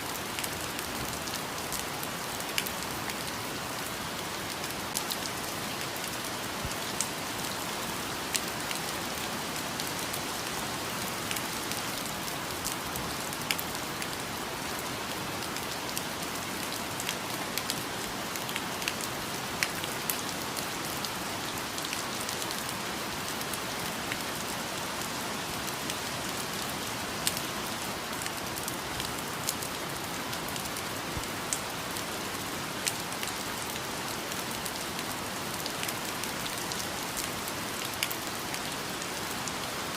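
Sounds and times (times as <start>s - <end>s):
rain drips and patters: 0.0s - 39.9s
steady rain hiss: 0.0s - 39.9s.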